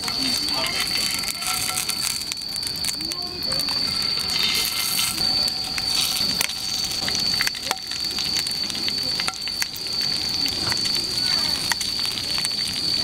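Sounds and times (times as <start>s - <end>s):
meat sizzling with spattering pops: 0.0s - 13.0s
steady high-pitched tone: 0.0s - 13.0s.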